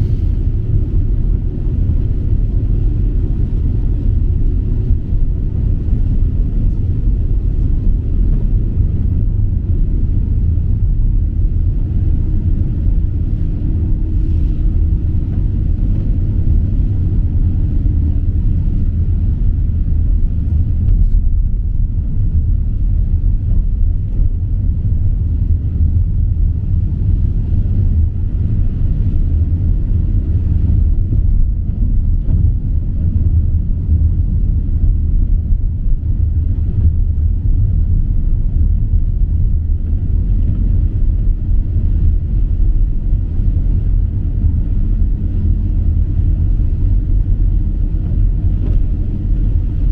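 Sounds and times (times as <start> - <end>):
vehicle low rumble: 0.0 - 49.9.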